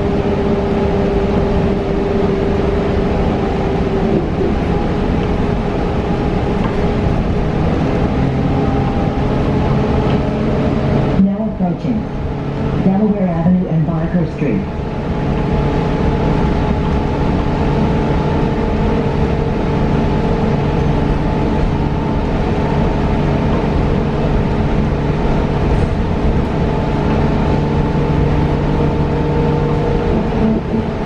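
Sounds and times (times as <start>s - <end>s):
bus cabin hum: 0.0s - 31.0s
low rumble: 0.0s - 31.0s.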